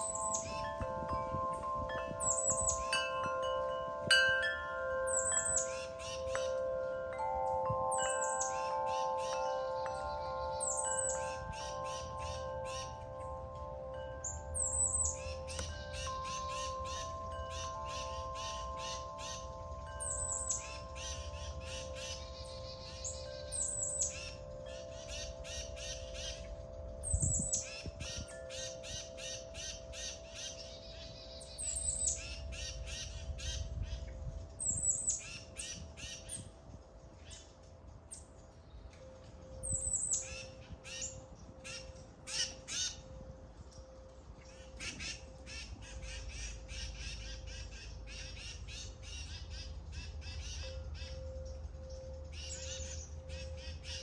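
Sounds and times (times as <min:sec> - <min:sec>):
small birds chirping: 0:00.0 - 0:54.0
wind chimes ringing: 0:00.0 - 0:54.0.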